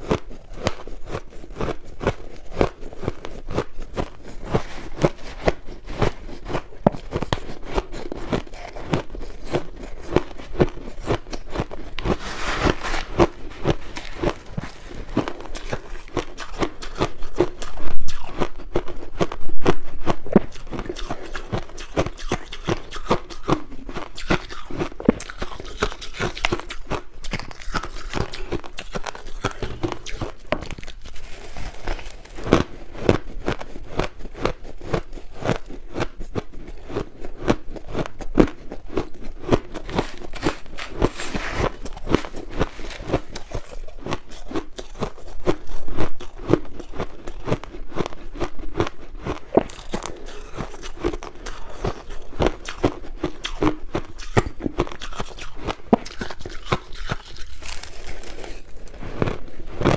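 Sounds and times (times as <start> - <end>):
crunching ice being chewed: 0.0 - 59.9.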